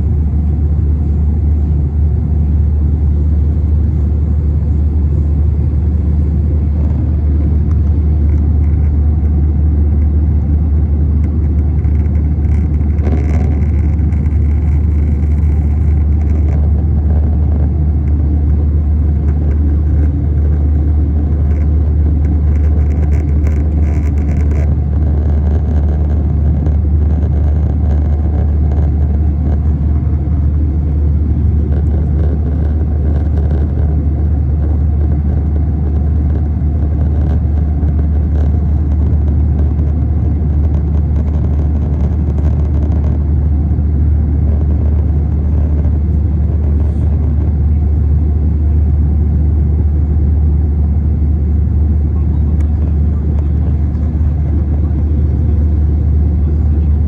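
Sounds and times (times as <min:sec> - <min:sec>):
jet engine drone in cabin: 0:00.0 - 0:57.0.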